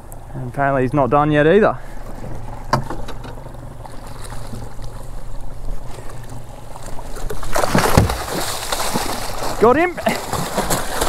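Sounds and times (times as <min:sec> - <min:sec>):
outboard motor idling: 0:00.0 - 0:11.0
wind and sea noise: 0:00.0 - 0:11.0.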